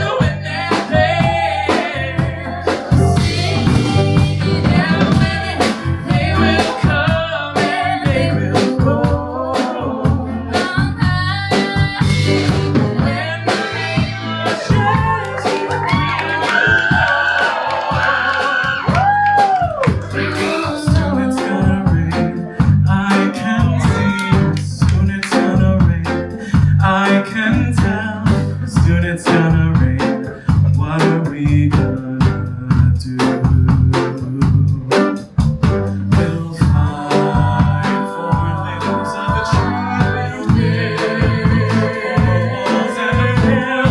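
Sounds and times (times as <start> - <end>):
folk-rock band playing: 0.0 - 43.9.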